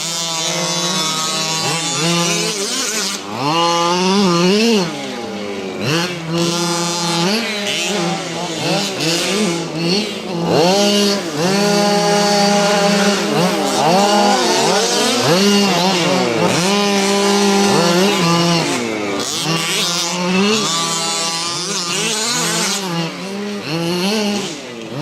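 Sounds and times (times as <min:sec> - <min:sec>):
small two-stroke engines revving: 0:00.0 - 0:25.0.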